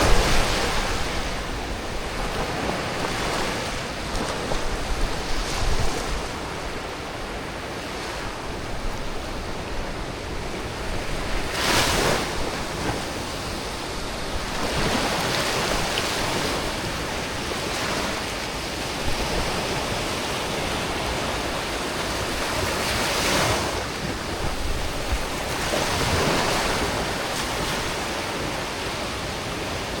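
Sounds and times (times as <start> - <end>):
ocean waves breaking: 0.0 - 30.0
sea wind blowing: 0.0 - 30.0.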